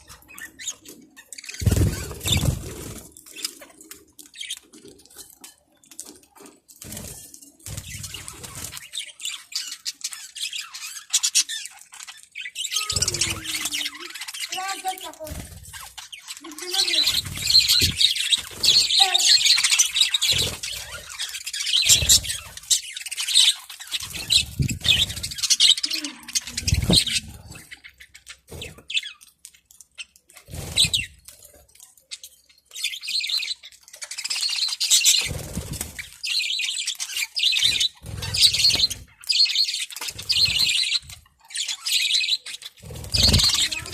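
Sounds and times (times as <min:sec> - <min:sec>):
budgerigars chattering and chirping: 0:00.0 - 0:05.0, 0:07.7 - 0:31.2, 0:32.0 - 0:43.9.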